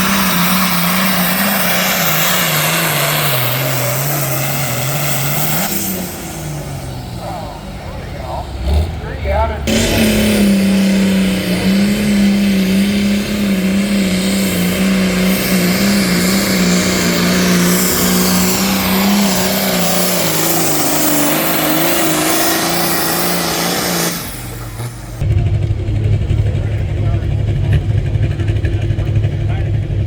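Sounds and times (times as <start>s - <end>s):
tractor engine at full throttle: 0.0s - 30.0s.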